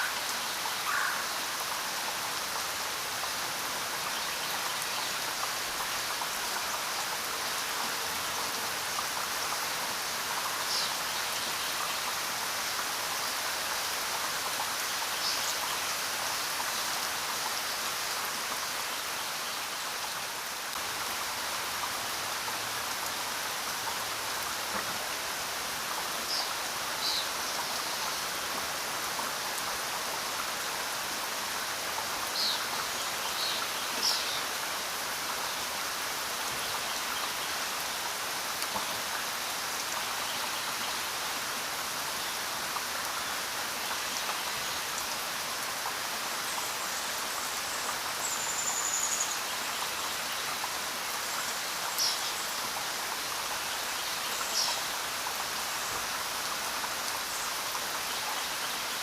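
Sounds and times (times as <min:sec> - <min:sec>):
rain on ground and leaves: 0:00.0 - 0:59.0.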